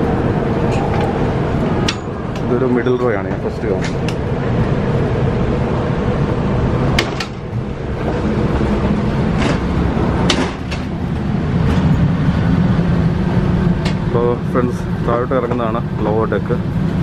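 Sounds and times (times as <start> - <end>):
train coach rumble and hum: 0.0 - 17.0.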